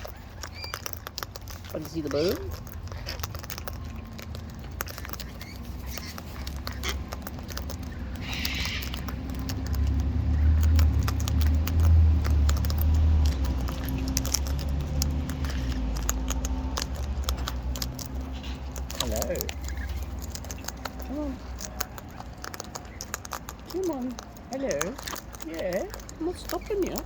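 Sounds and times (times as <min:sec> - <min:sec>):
beaks rattling seed in bucket: 0:00.0 - 0:27.0.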